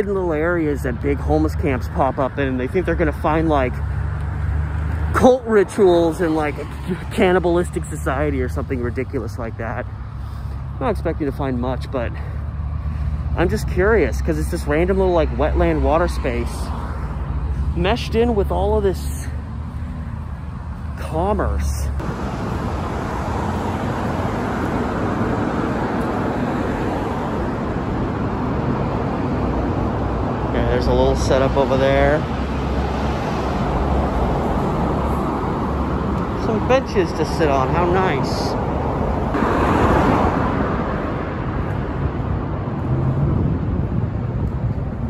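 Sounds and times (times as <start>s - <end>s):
freeway traffic: 0.0s - 45.0s
vehicle passing: 0.0s - 45.0s.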